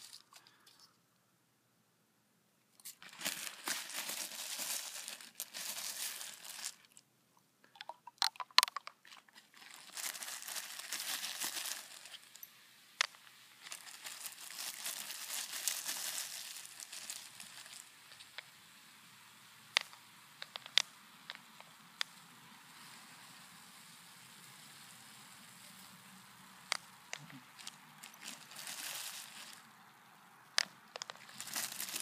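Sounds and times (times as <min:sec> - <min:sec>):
soda fizzing and crackling: 0:02.8 - 0:07.0, 0:07.7 - 0:32.0.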